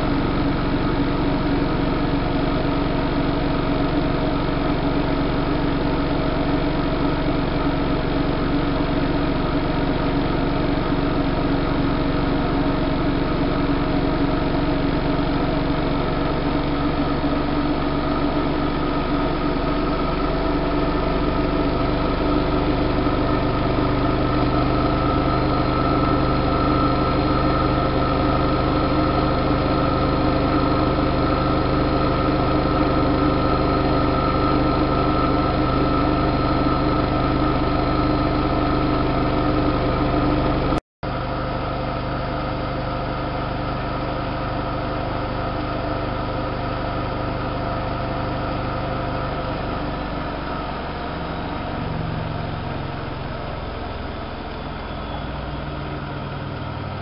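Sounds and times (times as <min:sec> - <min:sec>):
drum spinning whine: 0:00.0 - 0:44.0, 0:46.9 - 0:57.0
washing machine running: 0:00.0 - 0:57.0.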